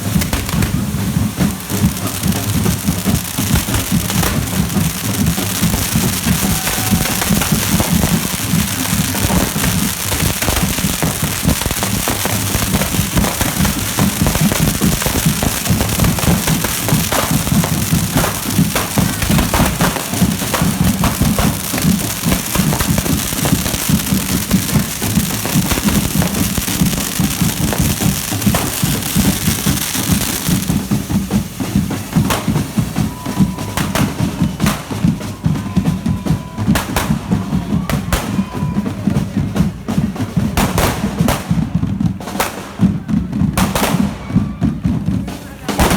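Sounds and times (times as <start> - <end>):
drumming: 0.0 - 45.9
firecracker cracks: 0.0 - 45.9
firework fountains hissing: 0.0 - 45.9.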